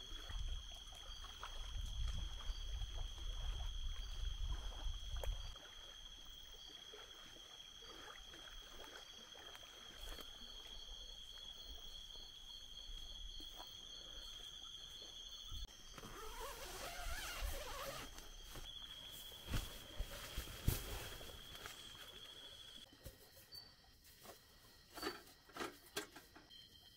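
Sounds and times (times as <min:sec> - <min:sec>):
insect short chirps: 0:00.0 - 0:25.5
high-pitched insect trills: 0:00.0 - 0:26.9.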